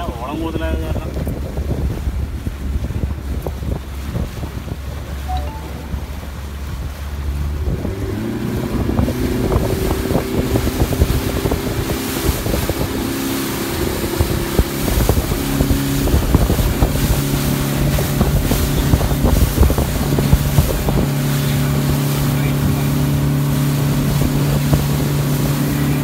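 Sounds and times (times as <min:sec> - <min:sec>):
wind buffeting microphone: 0:00.0 - 0:05.2, 0:05.8 - 0:26.0
speedboat engine droning: 0:00.1 - 0:26.0.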